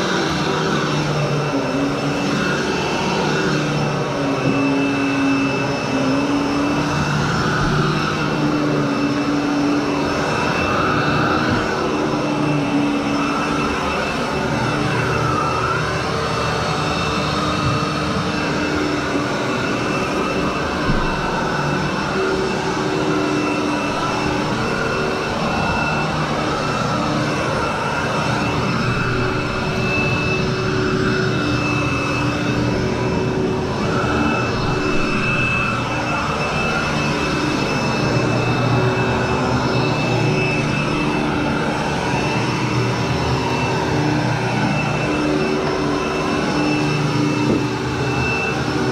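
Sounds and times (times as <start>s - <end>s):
vacuum cleaner running on carpet: 0.0s - 48.9s.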